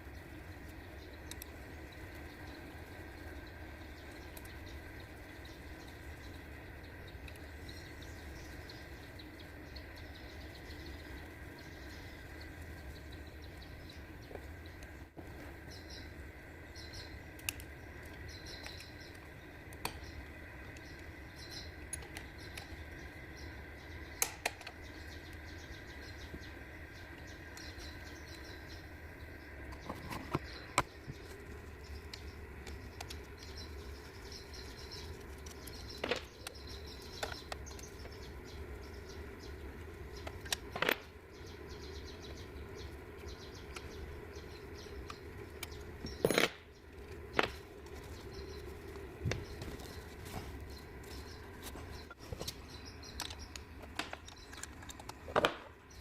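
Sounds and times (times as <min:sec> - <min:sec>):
small birds chirping: 0:00.0 - 0:56.0
steady hum: 0:00.0 - 0:56.0.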